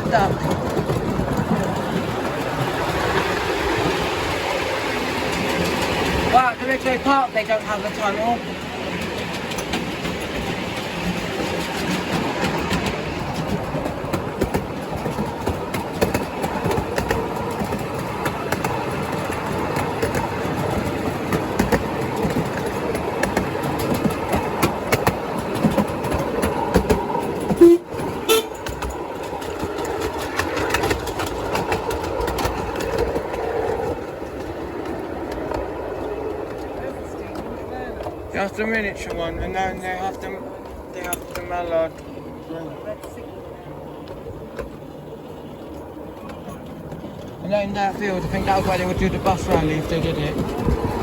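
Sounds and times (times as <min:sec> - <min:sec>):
wheel clicks on track: 0:00.0 - 0:42.2, 0:44.0 - 0:51.0
train rumble and rattle: 0:00.0 - 0:51.0.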